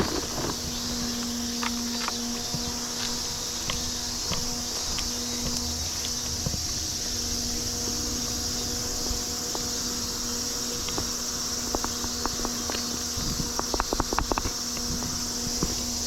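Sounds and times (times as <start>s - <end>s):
footsteps crunching on vegetation: 0.0s - 16.0s
insects chorus: 0.0s - 16.0s
small fan hum: 0.0s - 16.0s.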